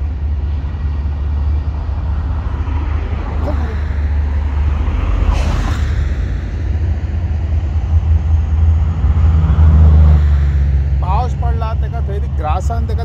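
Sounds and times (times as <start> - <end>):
highway traffic rumble: 0.0 - 13.0
vehicle passing by: 0.0 - 13.0.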